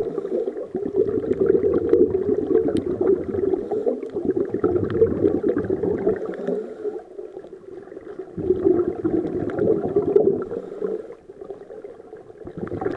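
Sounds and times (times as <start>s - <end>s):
underwater bubbles from divers: 0.0s - 12.9s.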